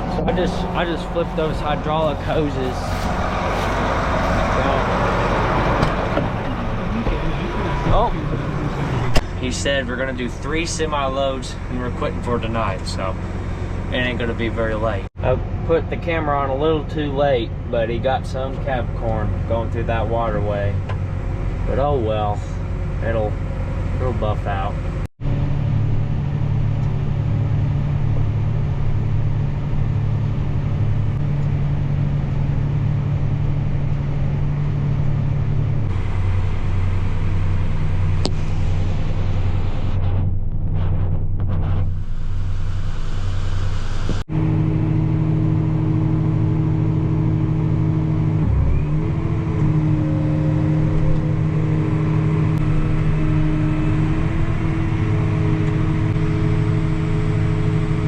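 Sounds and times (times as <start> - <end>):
tractor engine running: 0.0 - 15.6, 24.5 - 58.0.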